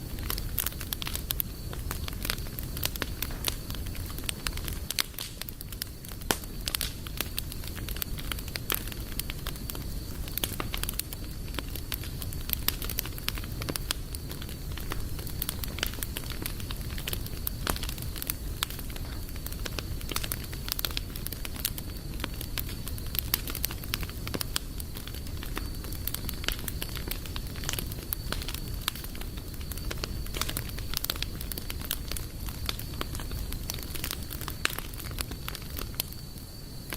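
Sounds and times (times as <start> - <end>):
campfire crackling and popping: 0.0 - 36.9
low rumble of burning: 0.0 - 36.9.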